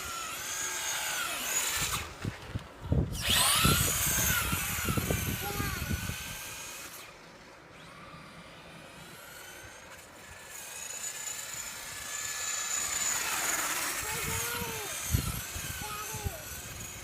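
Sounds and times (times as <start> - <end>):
toy truck electric motor whining: 0.0 - 2.3, 2.9 - 17.0.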